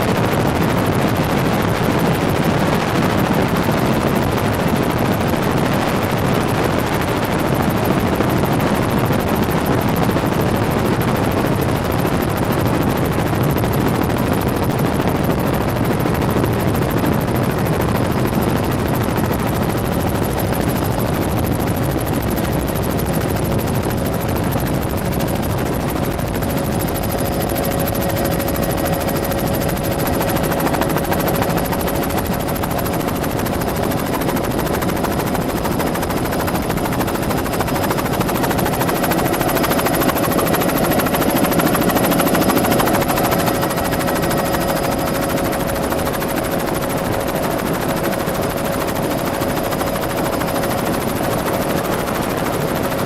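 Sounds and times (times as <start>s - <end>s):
helicopter rotor and engine noise: 0.0s - 53.0s.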